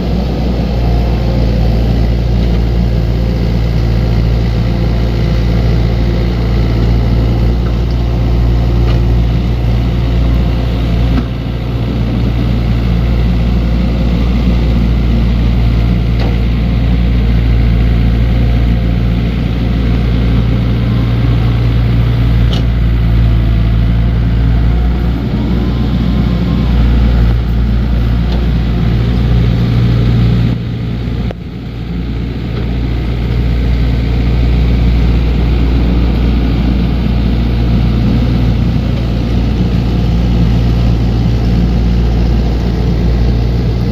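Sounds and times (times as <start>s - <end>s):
heavy machinery diesel engine drone: 0.0s - 43.9s.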